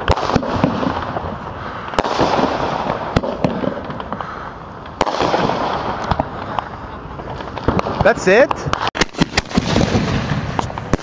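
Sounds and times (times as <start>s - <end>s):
firework bangs: 0.0s - 11.0s
firework crackling: 0.0s - 11.0s
small firework pops: 1.9s - 11.0s.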